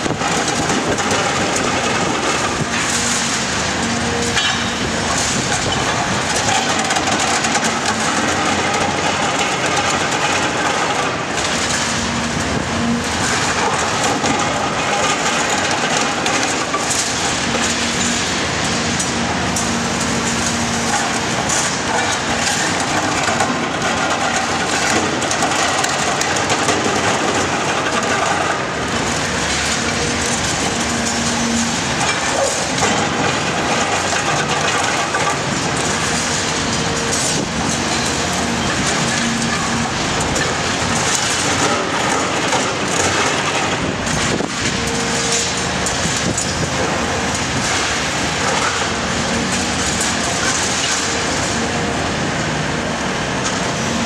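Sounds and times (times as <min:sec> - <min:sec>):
falling rubble: 0:00.0 - 0:51.7
concrete cracking and crunching: 0:00.0 - 0:51.8
excavator diesel engine and hydraulics: 0:00.0 - 0:54.0.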